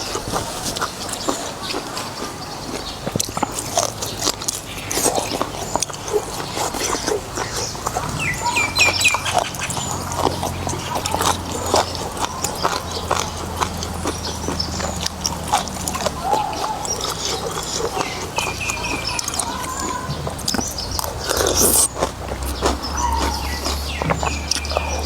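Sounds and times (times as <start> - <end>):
slurping and chewing: 0.0 - 25.0.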